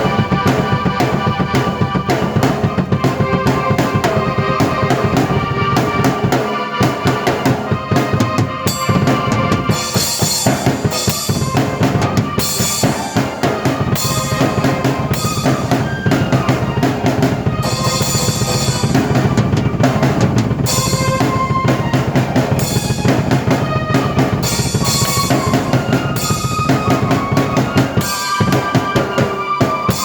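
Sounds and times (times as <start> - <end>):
drum beat with rimshots: 0.0 - 30.0.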